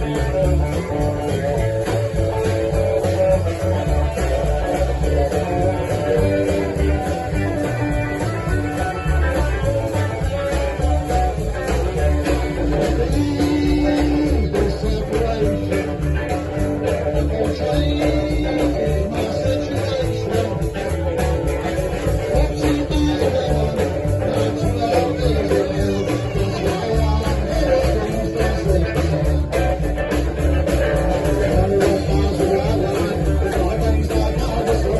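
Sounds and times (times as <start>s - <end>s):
blues-rock band playing: 0.0s - 34.9s
electric guitar: 0.0s - 34.9s.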